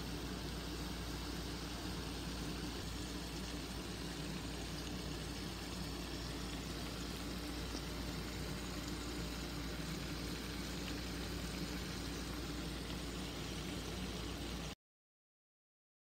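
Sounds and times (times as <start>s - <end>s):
pot of food cooking: 0.0s - 14.8s.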